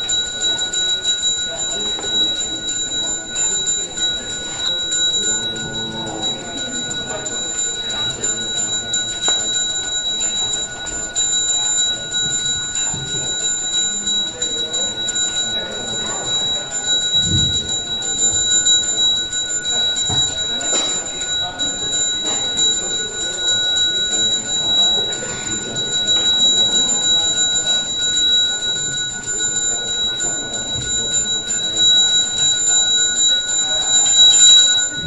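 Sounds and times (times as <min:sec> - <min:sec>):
hand bell ringing: 0:00.0 - 0:35.0.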